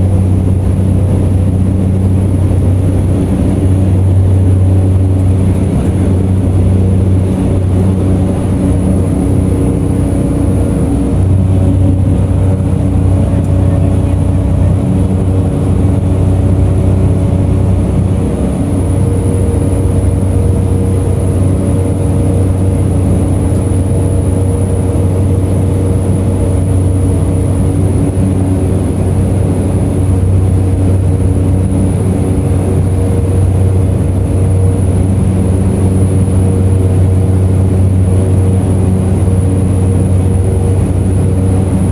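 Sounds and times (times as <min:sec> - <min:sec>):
turboprop engine drone: 0:00.0 - 0:41.9.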